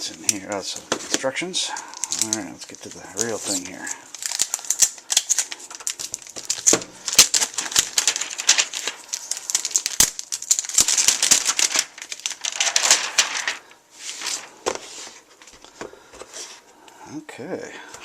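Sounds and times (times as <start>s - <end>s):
packaging rustling and crinkling: 0.0s - 16.7s.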